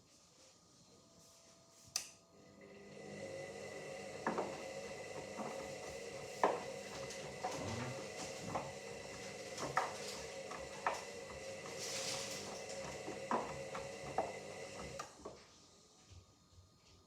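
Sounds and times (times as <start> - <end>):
washing machine motor hum: 2.2 - 17.0.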